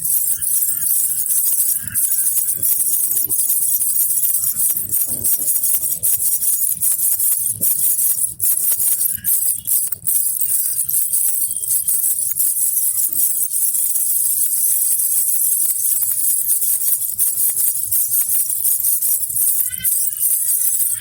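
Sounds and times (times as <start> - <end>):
baby rattle jingling: 0.0 - 21.0.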